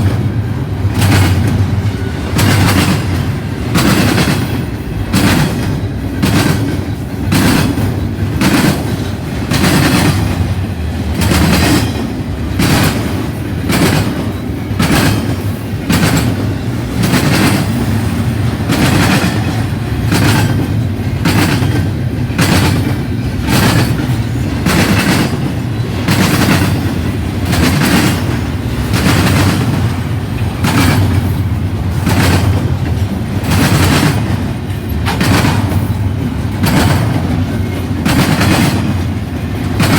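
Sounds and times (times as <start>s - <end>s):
freight train rumbling past: 0.0s - 39.9s
train wheels clacking: 0.0s - 39.9s.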